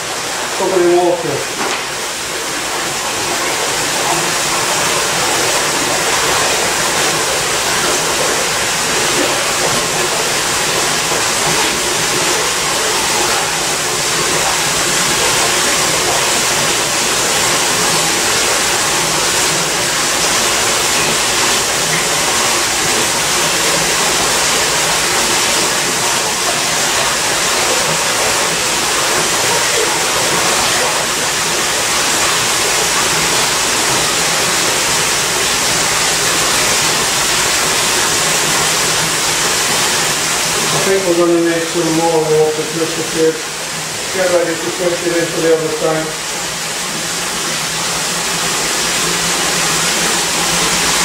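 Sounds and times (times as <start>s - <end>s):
water gushing from pump hose: 0.0s - 51.0s.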